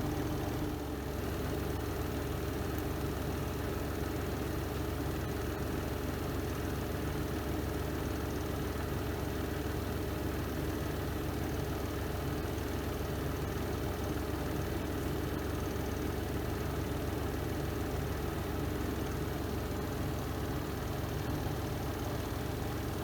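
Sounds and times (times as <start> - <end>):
washing machine spin cycle hum: 0.0 - 23.0.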